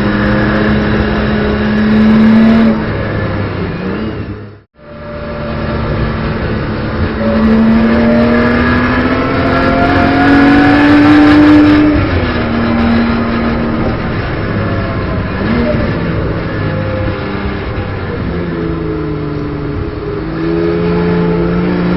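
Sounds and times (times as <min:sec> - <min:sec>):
car engine accelerating: 0:00.0 - 0:21.9.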